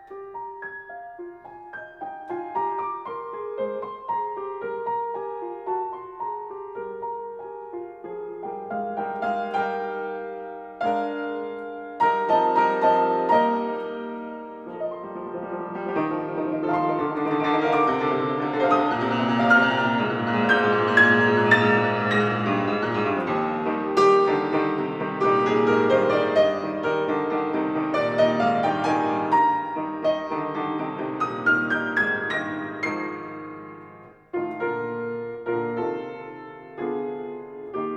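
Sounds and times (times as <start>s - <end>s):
piano music: 0.0s - 37.9s.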